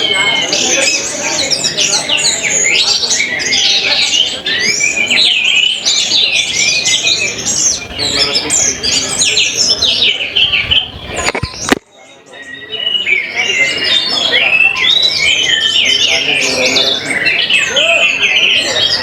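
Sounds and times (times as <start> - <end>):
thrushes singing: 0.0 - 19.0.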